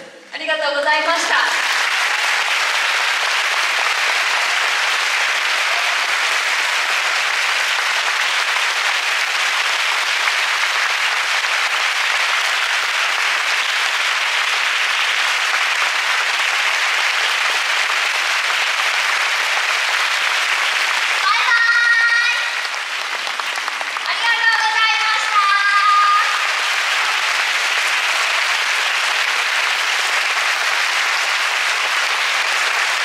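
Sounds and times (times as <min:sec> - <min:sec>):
audience applauding: 0:00.9 - 0:33.0.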